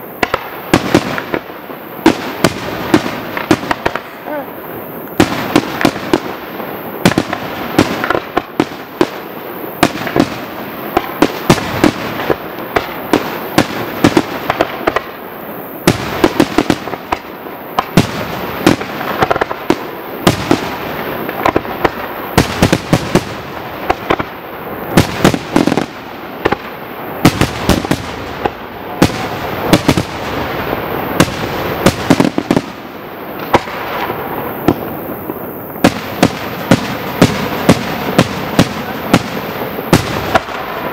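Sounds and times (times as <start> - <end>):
firework crackle: 0.0 - 40.9.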